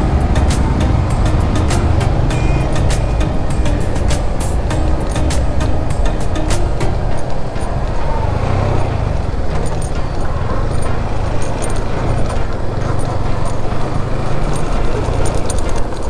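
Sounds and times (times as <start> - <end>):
motorcycle engine running: 0.0 - 16.0
tyre and road noise: 0.0 - 16.0.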